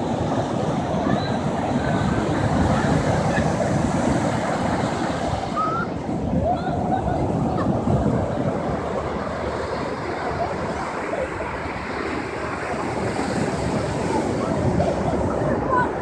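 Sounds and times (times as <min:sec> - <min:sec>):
surf breaking on a sandy beach: 0:00.0 - 0:16.0.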